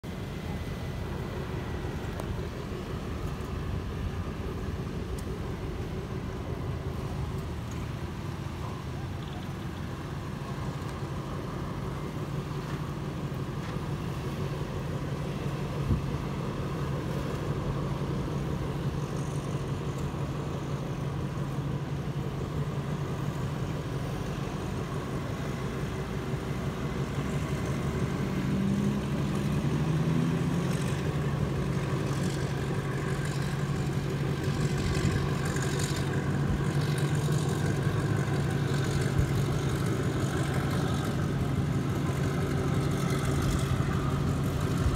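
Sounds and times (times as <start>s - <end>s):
diesel locomotive engine hum: 0.0s - 44.9s.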